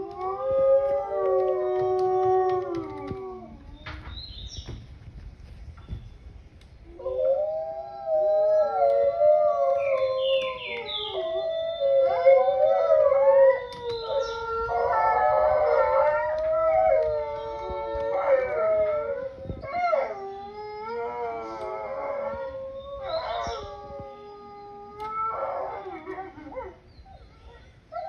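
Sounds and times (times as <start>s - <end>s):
wolves howling: 0.0s - 4.1s, 6.9s - 28.0s.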